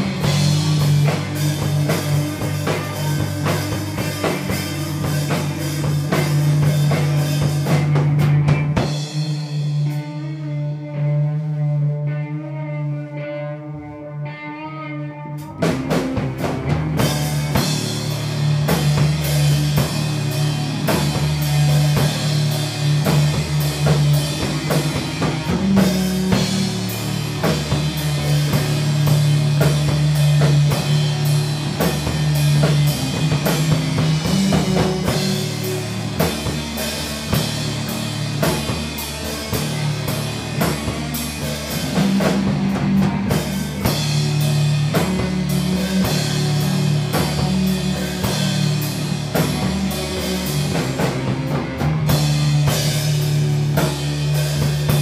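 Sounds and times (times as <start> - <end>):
rock band playing with drums: 0.0 - 55.0.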